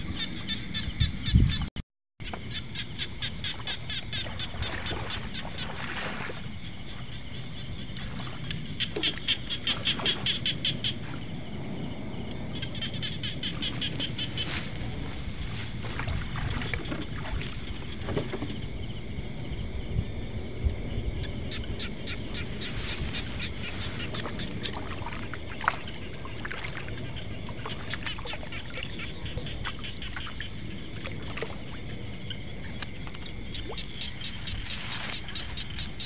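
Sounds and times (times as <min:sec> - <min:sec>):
insects chirping in pulses: 0:00.0 - 0:36.0
high insect drone: 0:02.2 - 0:36.0.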